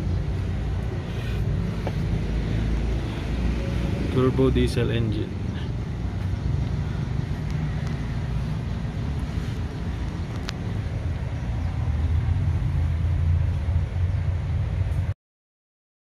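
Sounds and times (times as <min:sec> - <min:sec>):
diesel engine idling: 0:00.0 - 0:15.1.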